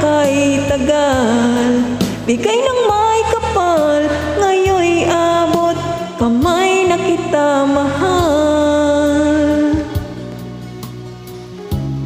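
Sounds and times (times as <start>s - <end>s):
woman singing into microphone: 0.0s - 10.3s
karaoke backing music: 0.0s - 12.0s.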